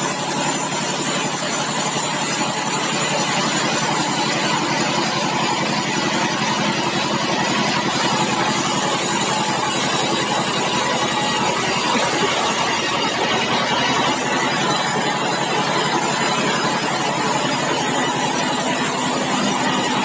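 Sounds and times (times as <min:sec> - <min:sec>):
sawmill machinery drone: 0:00.0 - 0:20.0.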